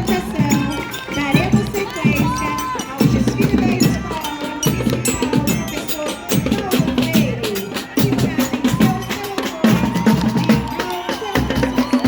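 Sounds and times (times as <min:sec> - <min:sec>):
marching band melody: 0:00.0 - 0:12.0.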